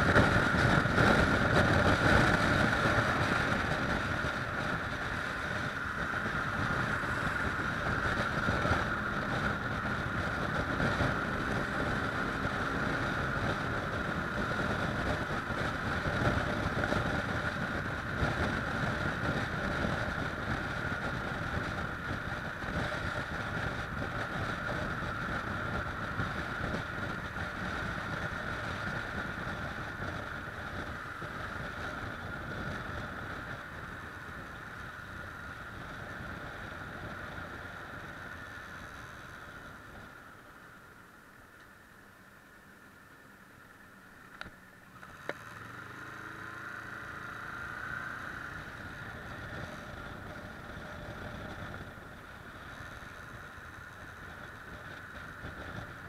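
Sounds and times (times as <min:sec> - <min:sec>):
wind rushing over microphone: 0:00.0 - 0:40.6, 0:45.6 - 0:56.0
motorcycle engine: 0:00.0 - 0:41.6, 0:42.9 - 0:56.0.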